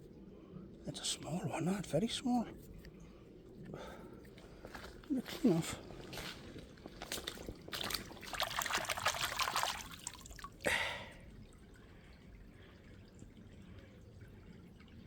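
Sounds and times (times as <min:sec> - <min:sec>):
water trickling and splashing: 0:01.0 - 0:15.0.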